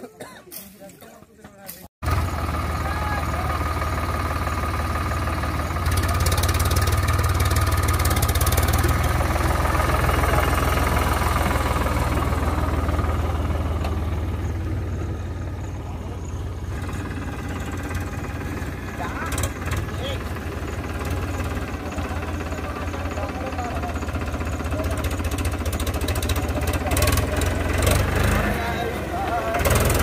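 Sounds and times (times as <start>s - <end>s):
tractor diesel engine passing: 2.0s - 30.0s.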